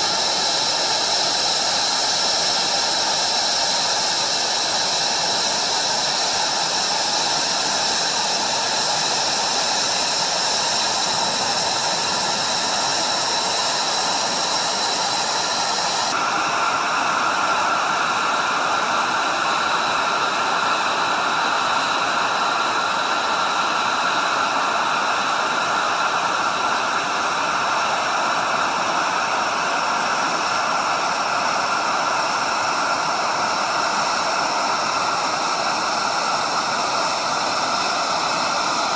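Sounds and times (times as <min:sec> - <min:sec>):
jet engine running: 0:00.0 - 0:38.9.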